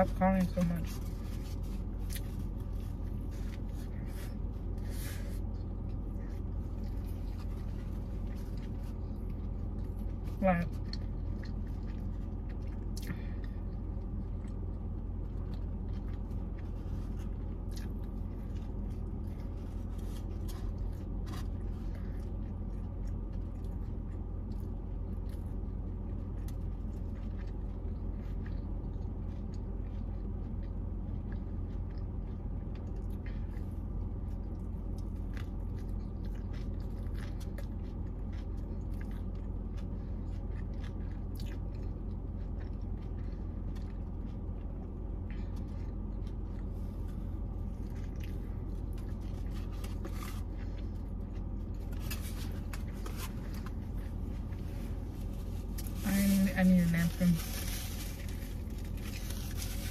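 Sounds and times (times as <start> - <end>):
steady low hum: 0.0 - 59.9
person chewing food: 0.2 - 56.0.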